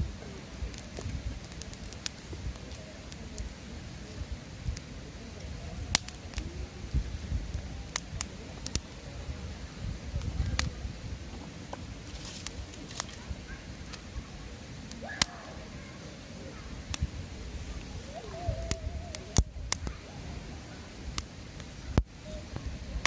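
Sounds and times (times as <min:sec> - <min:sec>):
rush of flame: 0:00.0 - 0:23.0
wood fire crackling and popping: 0:00.0 - 0:23.0.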